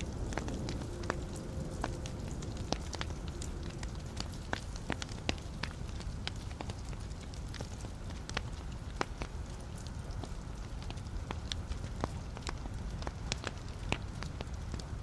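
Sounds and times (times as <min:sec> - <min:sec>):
fire flames rumbling: 0:00.0 - 0:15.0
logs crackling and popping: 0:00.0 - 0:15.0.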